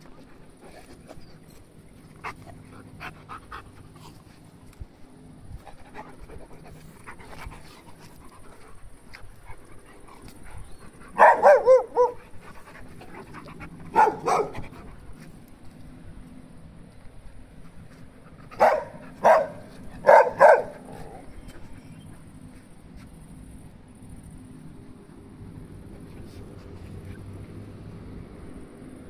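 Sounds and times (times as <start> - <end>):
dogs panting and scuffling: 0.0 - 23.6, 24.2 - 28.9.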